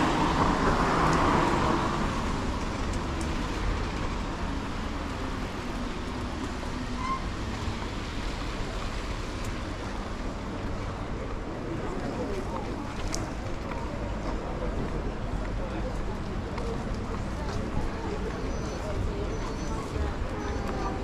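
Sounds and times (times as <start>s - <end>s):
steady road noise: 0.0s - 21.0s.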